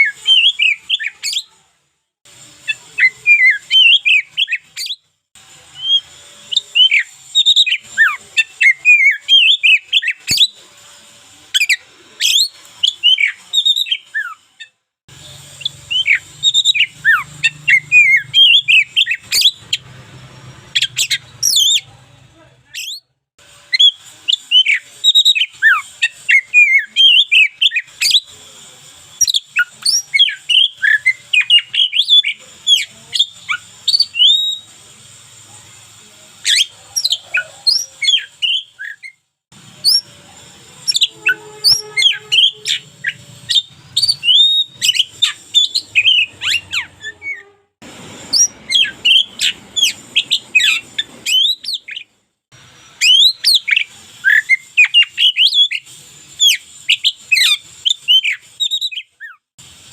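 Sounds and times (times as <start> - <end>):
bird singing whistled song: 0.0 - 1.6, 2.6 - 5.0, 5.7 - 10.6, 11.6 - 19.9, 20.7 - 21.9, 23.7 - 28.3, 29.2 - 34.7, 36.5 - 39.2, 39.8 - 40.2, 40.8 - 47.5, 48.3 - 52.1, 53.0 - 59.4.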